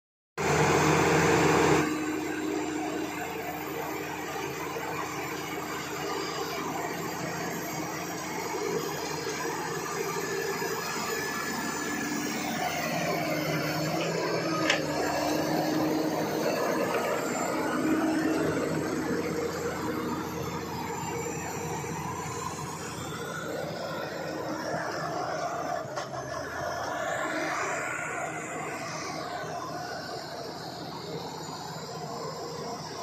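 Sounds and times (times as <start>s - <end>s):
bulldozer diesel engine running: 0.4s - 33.0s.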